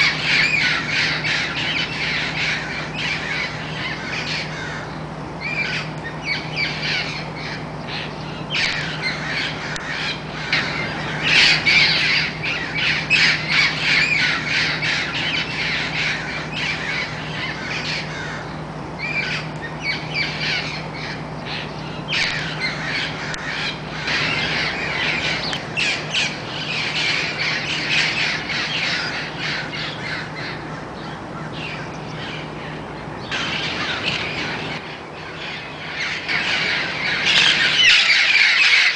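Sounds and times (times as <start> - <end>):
flock of parrots squawking: 0.0 - 38.9.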